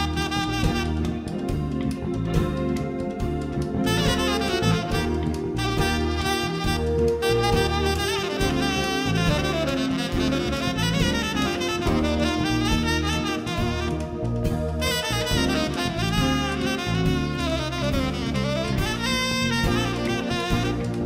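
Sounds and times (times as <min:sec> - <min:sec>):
jazz band accompaniment: 0:00.0 - 0:21.0
tenor saxophone fast runs: 0:00.0 - 0:21.0.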